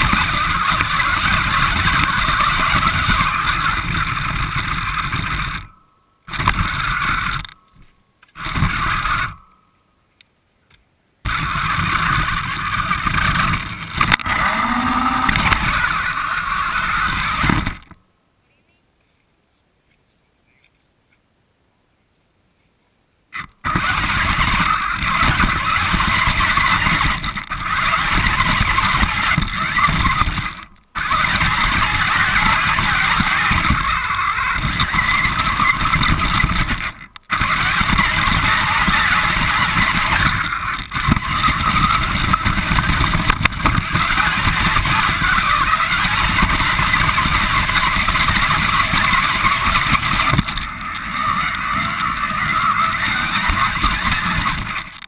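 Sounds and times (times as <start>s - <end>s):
rc car running noise: 0.0s - 9.6s, 11.2s - 18.0s, 23.4s - 55.0s.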